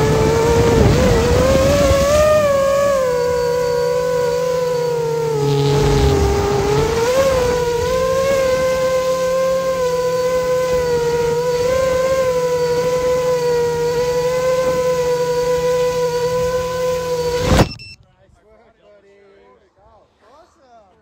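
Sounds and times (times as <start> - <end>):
quadcopter propellers whining: 0.0 - 18.0.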